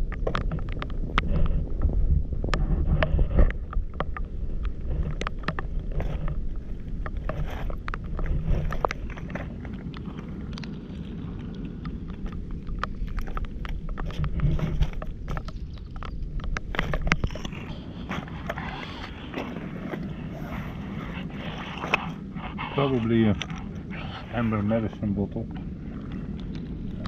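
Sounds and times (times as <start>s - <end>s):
stones clicking underfoot: 0.0s - 22.2s, 26.0s - 27.0s
wind rumble on microphone: 0.0s - 27.0s.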